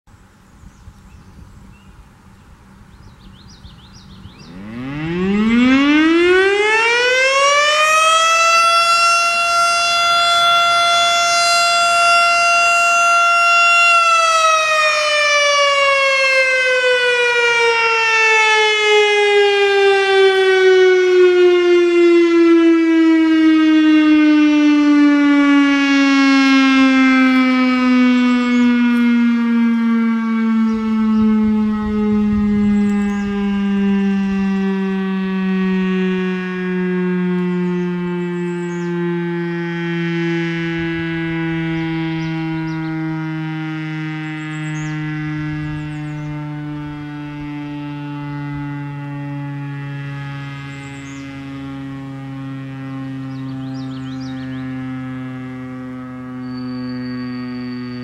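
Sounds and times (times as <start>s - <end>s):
warning siren winding: 4.4s - 58.0s.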